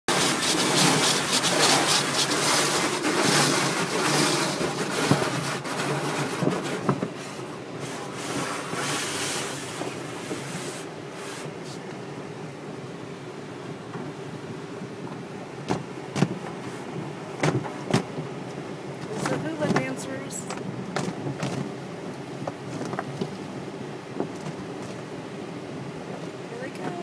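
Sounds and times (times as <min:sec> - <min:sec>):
water spraying on car: 0:00.1 - 0:12.0, 0:14.9 - 0:27.0.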